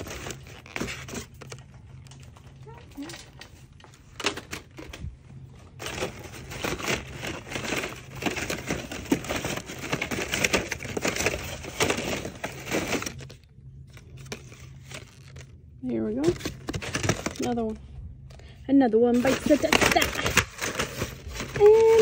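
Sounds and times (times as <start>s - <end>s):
plastic packaging crinkling: 0.0s - 18.5s, 19.1s - 22.0s.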